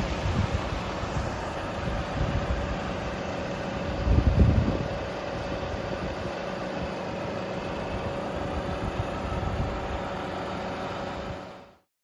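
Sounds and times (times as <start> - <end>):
thin steady whine: 0.0 - 11.9
truck diesel engine running: 0.0 - 11.9.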